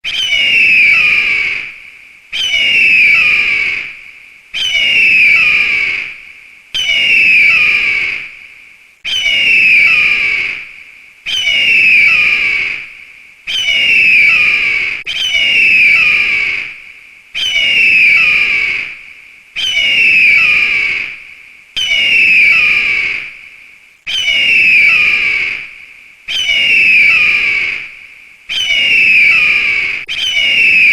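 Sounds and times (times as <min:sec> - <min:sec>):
eagle screech: 0:00.0 - 0:01.8, 0:02.4 - 0:04.0, 0:04.6 - 0:06.2, 0:06.8 - 0:08.4, 0:09.0 - 0:19.0, 0:19.6 - 0:21.2, 0:21.8 - 0:23.5, 0:24.1 - 0:30.9.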